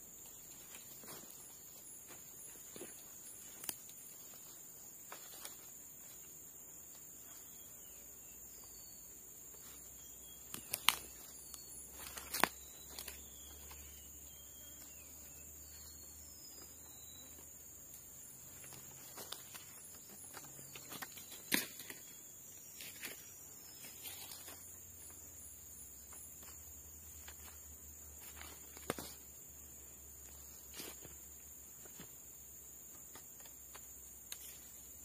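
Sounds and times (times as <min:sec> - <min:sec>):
faint bird chirps: 0:00.0 - 0:35.0.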